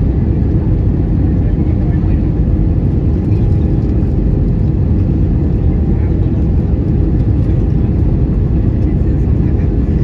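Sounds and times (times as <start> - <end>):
air rushing past airplane: 0.0 - 10.0
airplane engine noise: 0.0 - 10.0.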